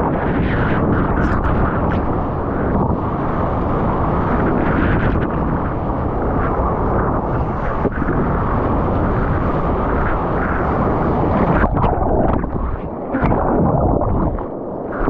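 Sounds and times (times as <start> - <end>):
ocean surf roar: 0.0 - 15.0
wind: 0.0 - 15.0.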